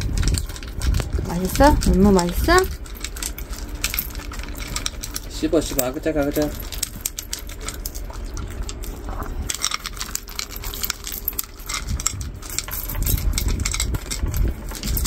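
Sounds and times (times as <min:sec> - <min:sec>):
dogs crunching food: 0:00.0 - 0:15.0.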